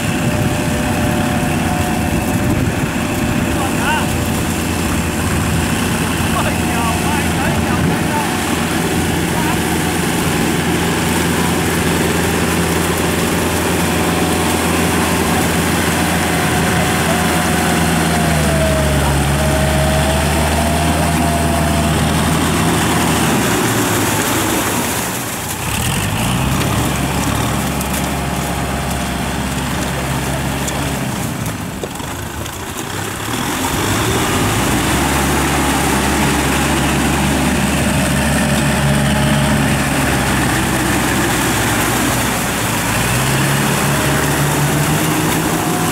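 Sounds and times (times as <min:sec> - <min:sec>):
tractor diesel engines running: 0:00.0 - 0:45.9.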